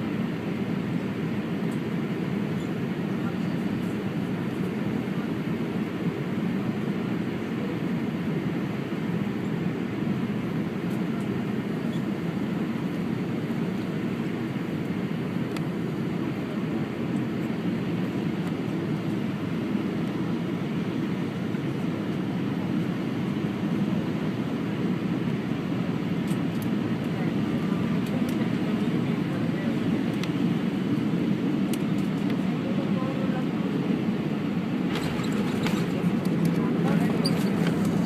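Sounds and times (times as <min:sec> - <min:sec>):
airliner cabin engine drone: 0:00.0 - 0:38.0.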